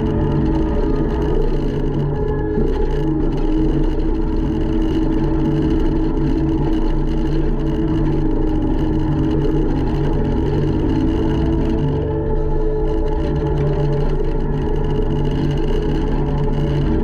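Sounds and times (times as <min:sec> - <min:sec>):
skid steer diesel engine running: 0:00.0 - 0:17.0.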